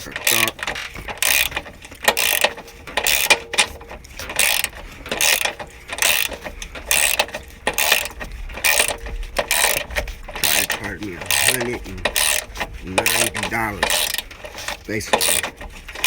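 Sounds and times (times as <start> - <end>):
ratchet wrench clicking: 0.1 - 16.0.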